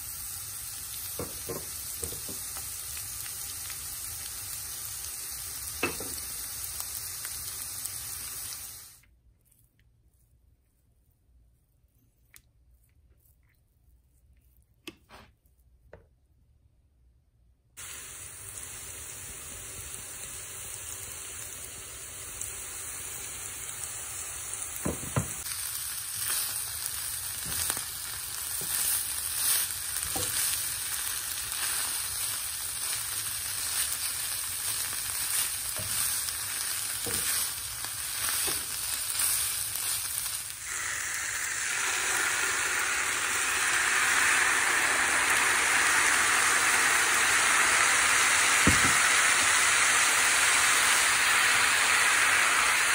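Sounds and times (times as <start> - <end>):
chicken sizzling in a frying pan: 0.0 - 9.0, 17.8 - 52.9.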